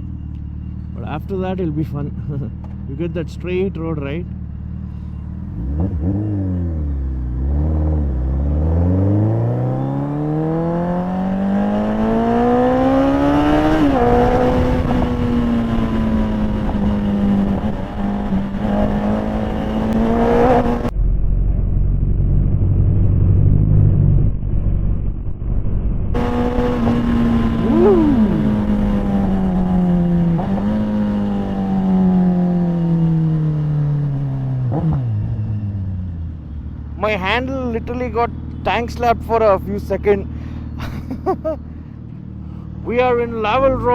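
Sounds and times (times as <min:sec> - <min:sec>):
motorcycle engine revving: 0:00.8 - 0:40.6.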